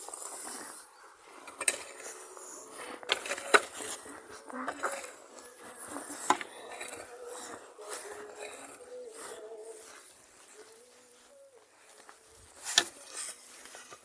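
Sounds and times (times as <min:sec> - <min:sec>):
rake scraping through grass: 0:00.0 - 0:14.0.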